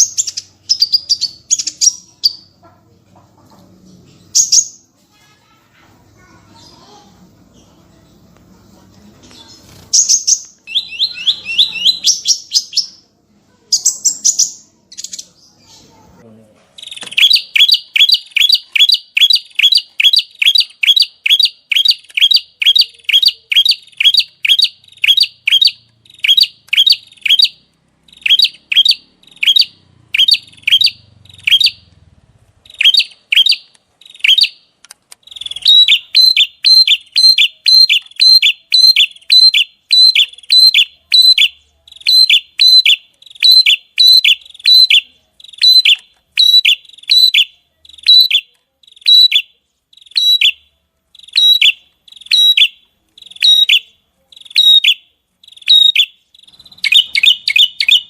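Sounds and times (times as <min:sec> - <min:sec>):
small songbird singing: 0:00.0 - 0:02.8, 0:03.8 - 0:04.9, 0:09.3 - 0:16.2, 0:16.8 - 0:32.0, 0:32.6 - 0:58.0.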